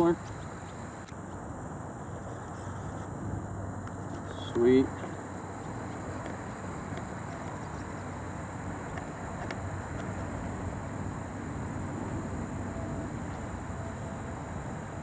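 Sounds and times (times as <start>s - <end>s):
continuous high buzz: 0.0s - 15.0s
rushing wind-like noise: 0.0s - 15.0s.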